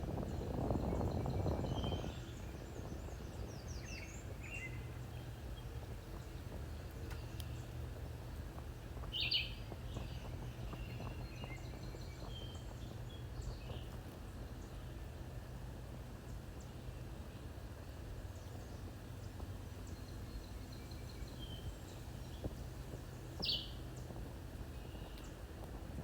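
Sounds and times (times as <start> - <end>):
steady low rumble: 0.0 - 26.0
small birds chirping: 0.1 - 26.0.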